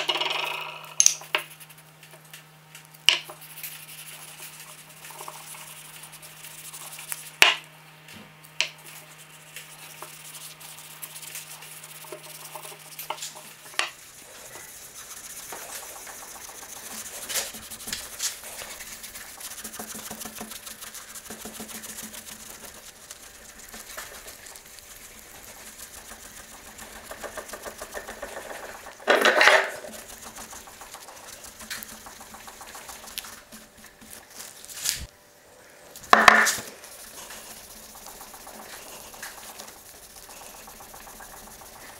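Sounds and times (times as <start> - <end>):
sharp knocks and crackles: 0.0 - 35.1, 36.0 - 41.9
cloth and brush scrubbing wood: 1.2 - 2.2, 3.3 - 7.4, 8.7 - 35.1, 35.9 - 41.9.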